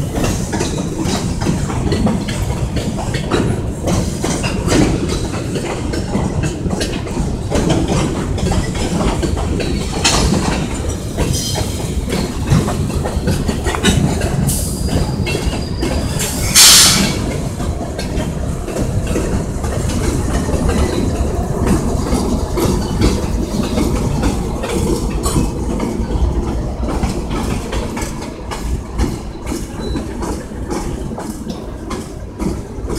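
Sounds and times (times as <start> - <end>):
freight cars clattering over rail joints: 0.0 - 32.9
train low rumble: 0.0 - 32.9.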